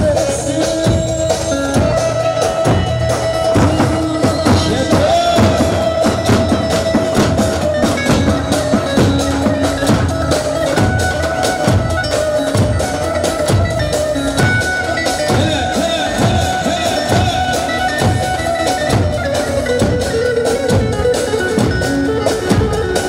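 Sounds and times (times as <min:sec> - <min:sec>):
drums beating steady rhythm: 0:00.0 - 0:23.0
wavering melody line: 0:00.0 - 0:23.0.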